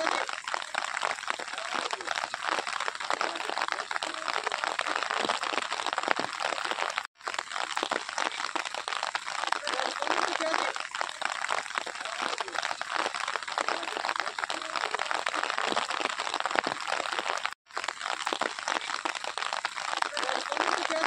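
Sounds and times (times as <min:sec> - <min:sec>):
steady rain pattering: 0:00.0 - 0:21.0.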